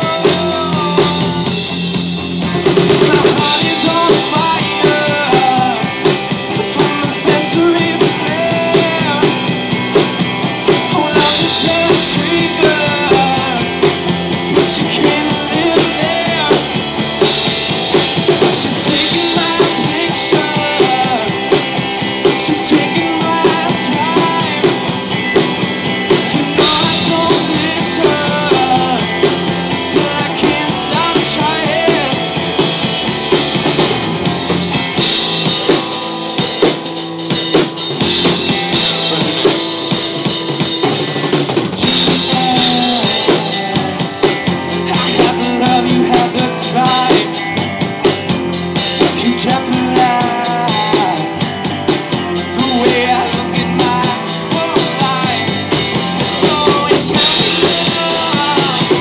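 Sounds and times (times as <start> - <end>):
drum kit beat: 0.0 - 59.0
electric guitars: 0.0 - 59.0.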